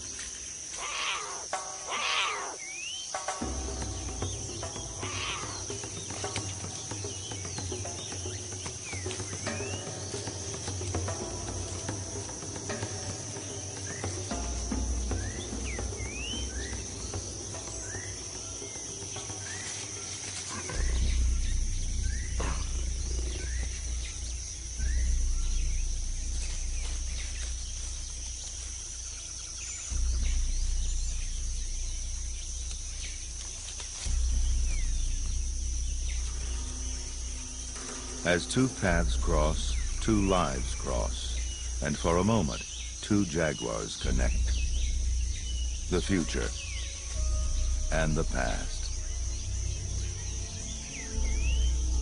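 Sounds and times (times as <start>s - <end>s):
insect buzzing: 0.0s - 52.0s
rising insect chirps: 0.0s - 52.0s
deep low music notes: 2.8s - 52.0s.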